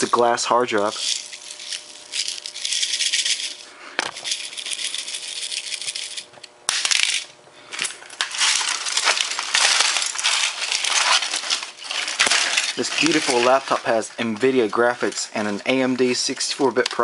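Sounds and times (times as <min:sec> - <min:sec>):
glass fragments rattling: 0:00.0 - 0:15.7.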